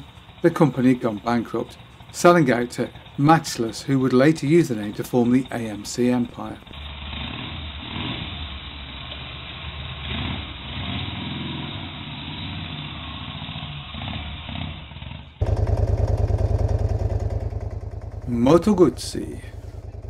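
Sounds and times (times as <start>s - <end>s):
louder motorcycle engine pulsing: 0.0s - 20.0s
v-twin motorcycle engine revving: 0.0s - 20.0s.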